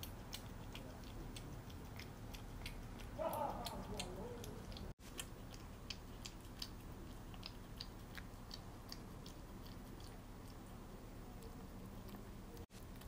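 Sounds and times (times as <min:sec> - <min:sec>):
cat lapping wet food: 0:00.0 - 0:13.0.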